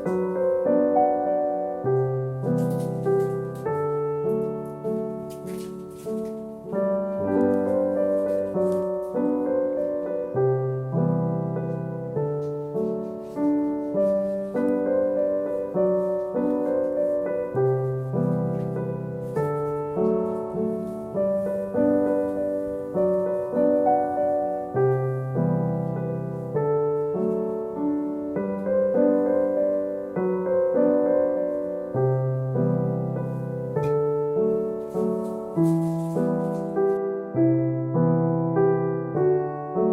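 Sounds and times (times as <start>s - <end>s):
gentle solo piano music: 0.0s - 39.9s.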